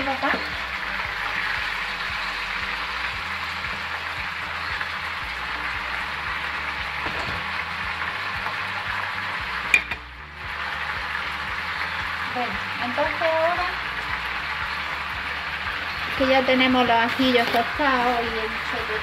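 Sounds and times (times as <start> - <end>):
meat sizzling in hot oil: 0.0 - 19.0.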